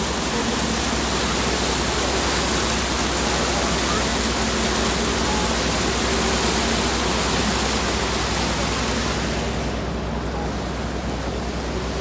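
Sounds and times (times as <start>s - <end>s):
low engine hum: 0.0s - 12.0s
rushing water: 0.0s - 12.0s.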